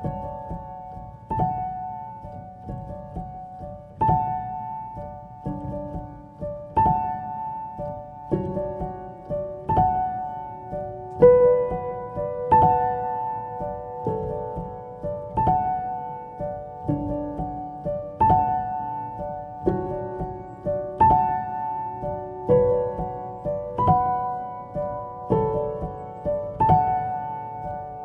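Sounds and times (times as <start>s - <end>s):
slow calm piano music: 0.0s - 28.0s.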